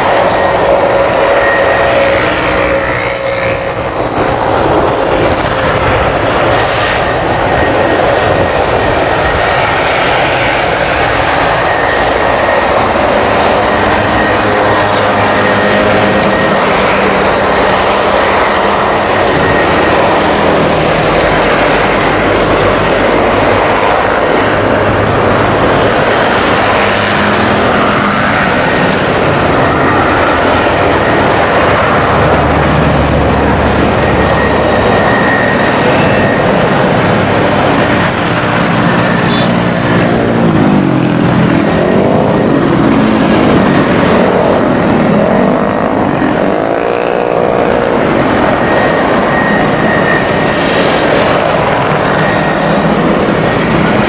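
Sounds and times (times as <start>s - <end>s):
turboprop engines and propellers: 0.0s - 54.0s.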